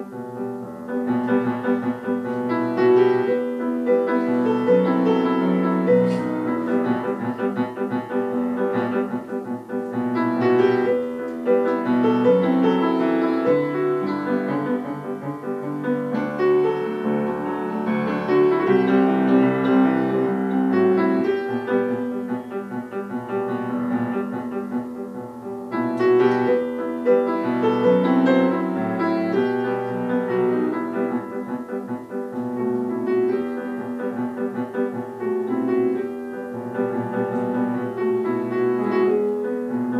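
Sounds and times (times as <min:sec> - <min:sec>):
grand piano playing: 0:00.0 - 0:39.9.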